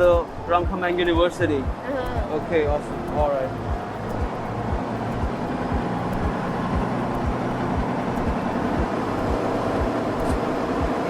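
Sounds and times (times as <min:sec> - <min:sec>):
boat engine running: 0:00.0 - 0:11.0
regular low thumps: 0:00.0 - 0:11.0.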